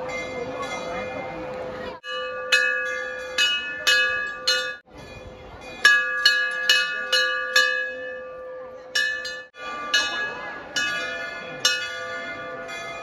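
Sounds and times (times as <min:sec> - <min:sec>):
large brass bell ringing: 0:00.0 - 0:13.0.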